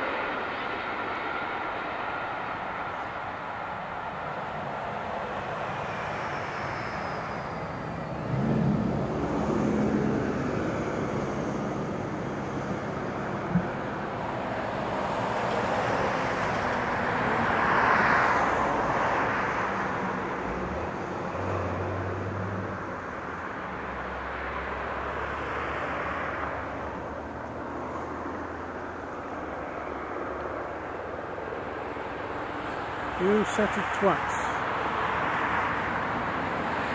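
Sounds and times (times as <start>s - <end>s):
helicopter flying over: 0.0s - 36.9s.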